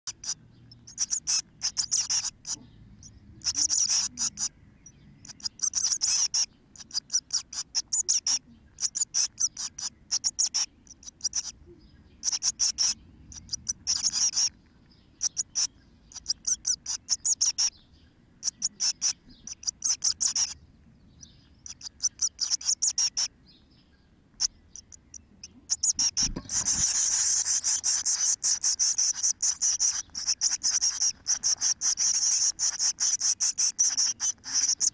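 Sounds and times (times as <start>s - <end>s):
nestlings begging calls: 0.0s - 23.8s, 24.4s - 34.9s.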